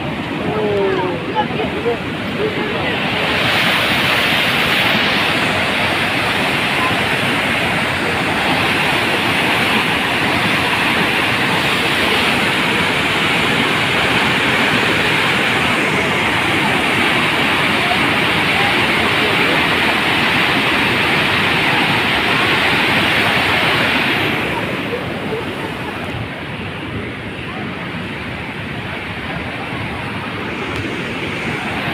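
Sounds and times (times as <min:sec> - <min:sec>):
floodwater rushing: 0:00.0 - 0:31.9.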